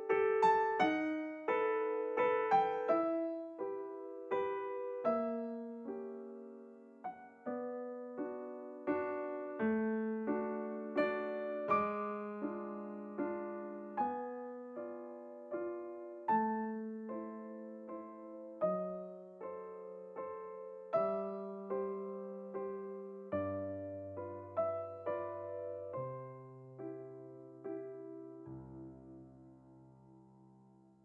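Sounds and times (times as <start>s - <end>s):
solo piano melody: 0.0s - 31.0s.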